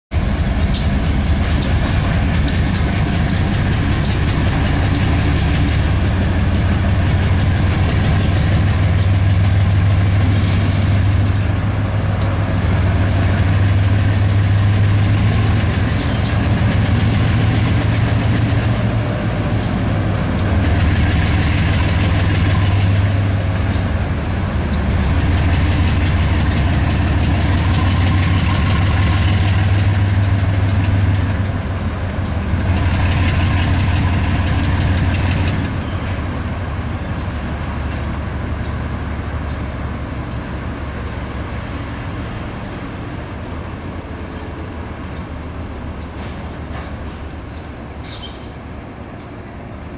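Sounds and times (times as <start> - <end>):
diesel locomotive engine droning: 0.1 - 49.9.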